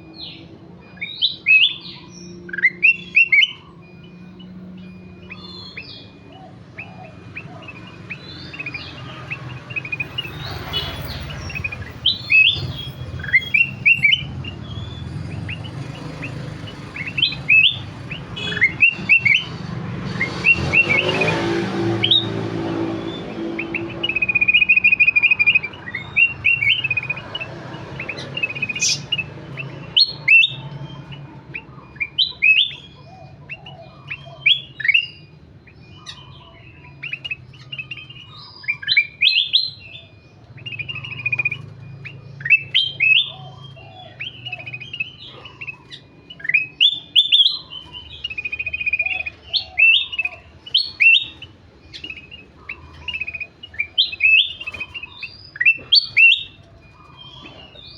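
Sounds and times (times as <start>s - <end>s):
bulbul singing: 0.0s - 57.9s.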